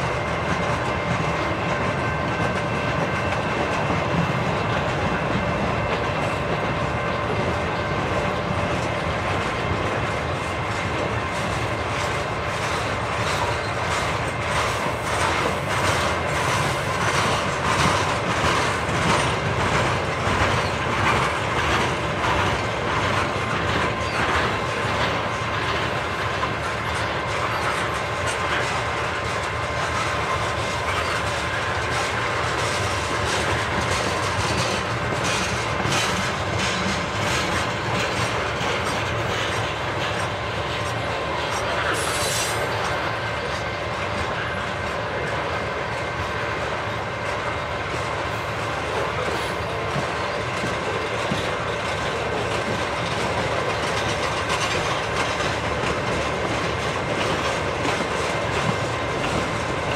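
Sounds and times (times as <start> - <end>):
train rumble: 0.0 - 59.9
wheels clicking over rail joints: 0.0 - 59.9.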